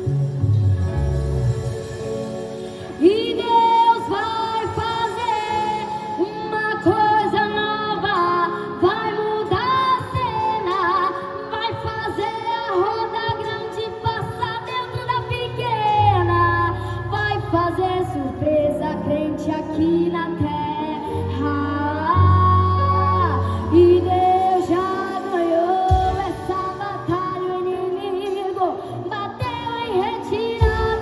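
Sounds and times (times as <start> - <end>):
keyboard and band accompaniment: 0.0 - 16.5, 21.8 - 31.0
woman singing with vibrato: 2.9 - 31.0.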